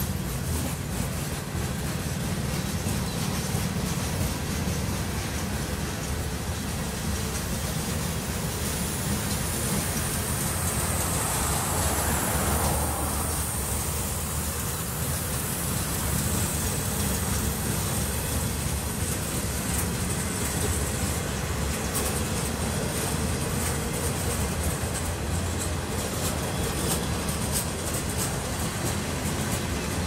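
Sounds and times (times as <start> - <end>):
sharp clicks from wheels: 0.0 - 30.0
train wheels rumbling on rail: 0.0 - 30.0.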